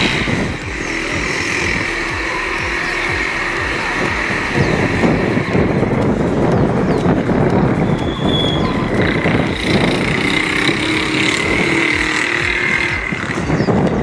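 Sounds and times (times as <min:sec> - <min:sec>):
loud rush of wind: 0:00.0 - 0:14.0
piston engine and propeller running: 0:00.0 - 0:14.0.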